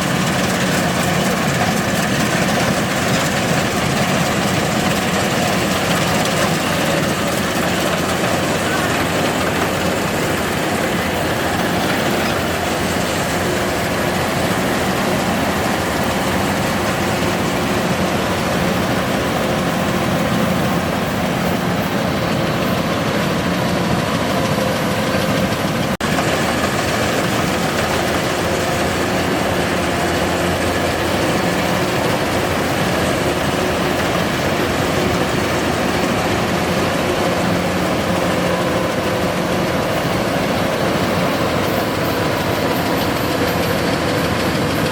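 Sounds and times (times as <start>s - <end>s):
combine harvester diesel engine: 0.0s - 44.9s.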